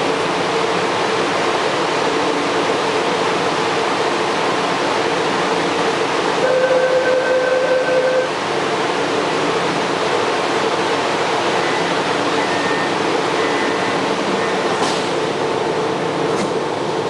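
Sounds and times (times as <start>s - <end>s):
metro train cabin rushing: 0.0s - 17.0s.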